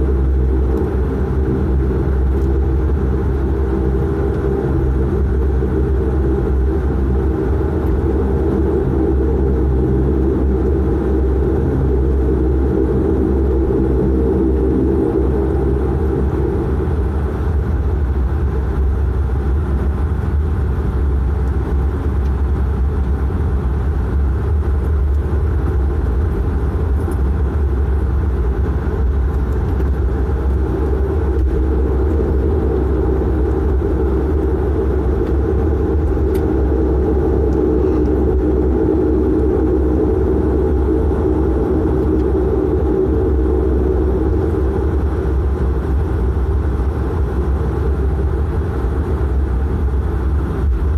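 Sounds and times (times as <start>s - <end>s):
turboprop engines droning: 0.0s - 50.9s.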